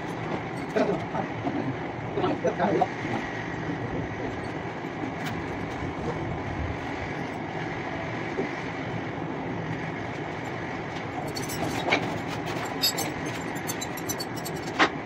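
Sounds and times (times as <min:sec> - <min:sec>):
fans humming: 0:00.0 - 0:15.0.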